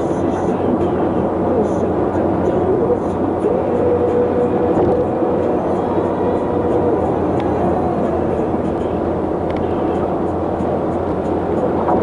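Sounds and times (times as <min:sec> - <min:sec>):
held whine: 0:00.0 - 0:12.0
vehicle road and engine noise: 0:00.0 - 0:12.0.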